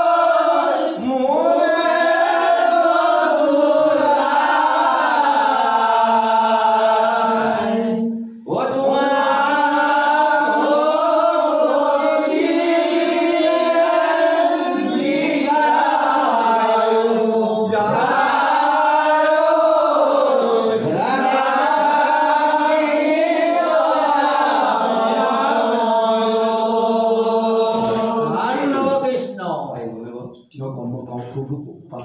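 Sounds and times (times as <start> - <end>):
men chanting in unison: 0.0 - 29.2.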